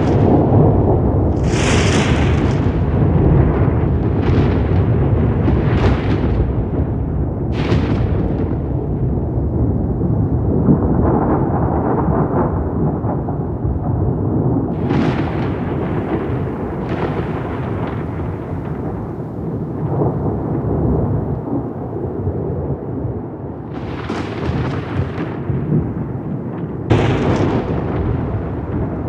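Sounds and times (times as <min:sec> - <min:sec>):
rolling thunder: 0:00.0 - 0:29.0
thunder cracks: 0:00.0 - 0:29.0.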